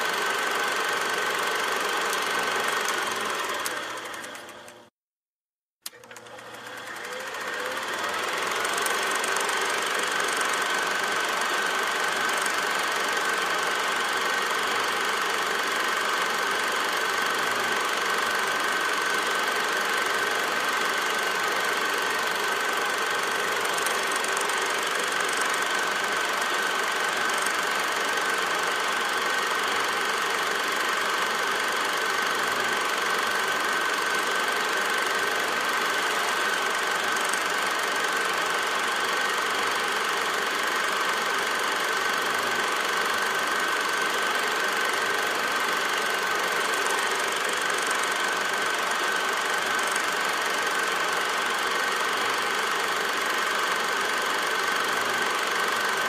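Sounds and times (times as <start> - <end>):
machine running with high whine: 0.0 - 4.9, 5.9 - 56.0.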